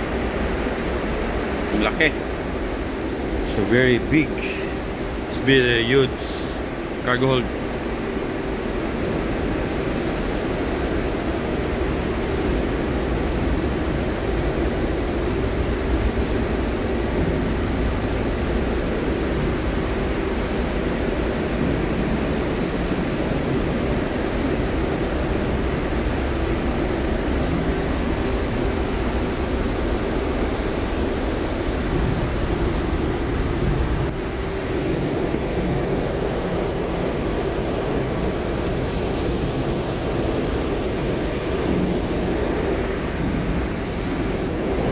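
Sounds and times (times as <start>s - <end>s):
constant hum: 0.0s - 44.9s
ship machinery rumble: 0.0s - 44.9s.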